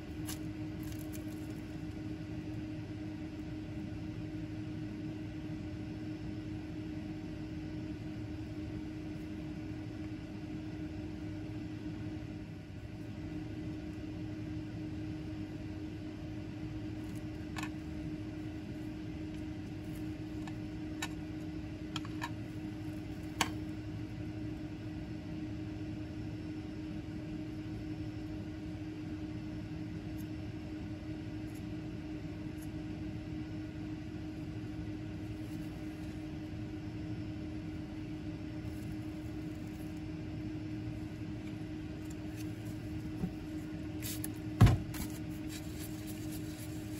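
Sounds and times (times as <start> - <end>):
machine hum: 0.0 - 46.9.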